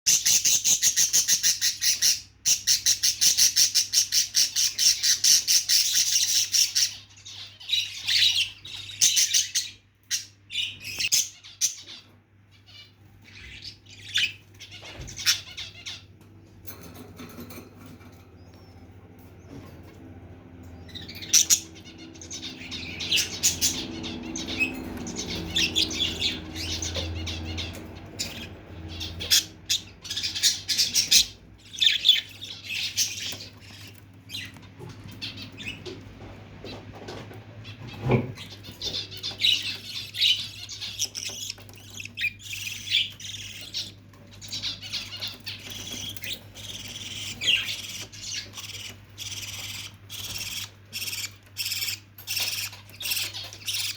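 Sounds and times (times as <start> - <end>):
lovebirds squawking and chirping: 0.1 - 53.9.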